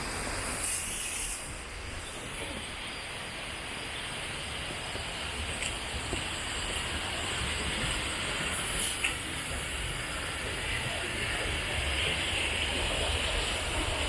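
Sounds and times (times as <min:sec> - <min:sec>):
rushing stream water: 0:00.0 - 0:14.0.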